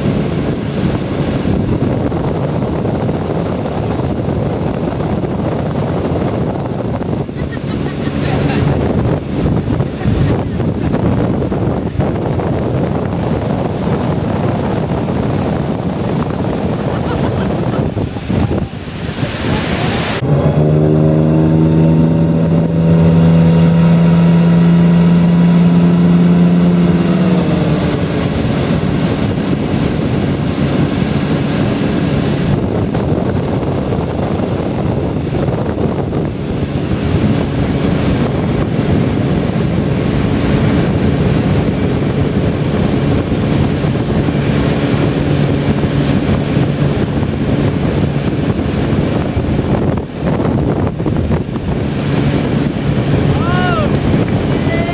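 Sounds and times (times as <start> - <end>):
boat engine running: 0.0 - 54.9
rushing wake water: 0.0 - 54.9
wind buffeting microphone: 0.0 - 54.9.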